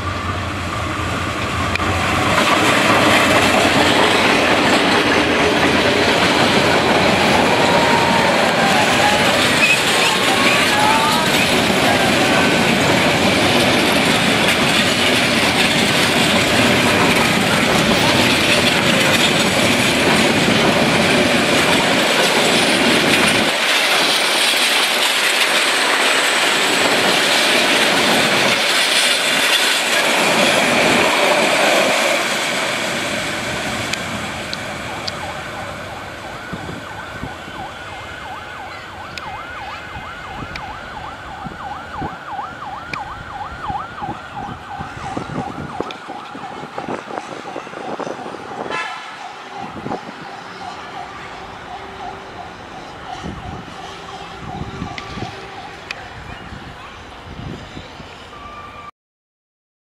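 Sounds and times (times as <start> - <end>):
train coaches rolling on rails: 0.0 - 58.9.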